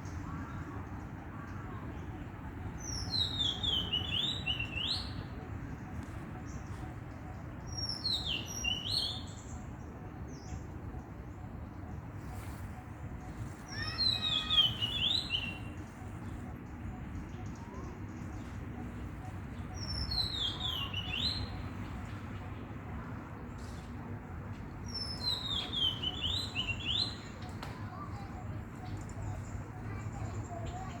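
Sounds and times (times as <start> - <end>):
songbird singing: 0.0 - 24.0, 24.7 - 31.0.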